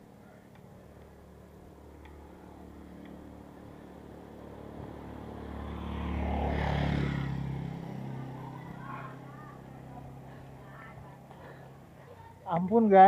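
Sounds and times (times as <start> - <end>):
motor scooter passing by: 1.2 - 12.4.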